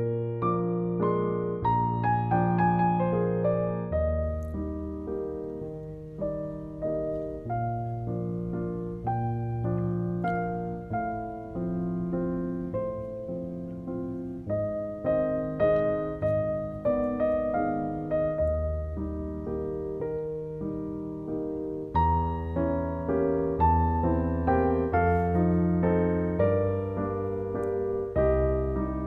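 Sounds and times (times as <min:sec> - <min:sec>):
slow gentle piano music: 0:00.0 - 0:29.0.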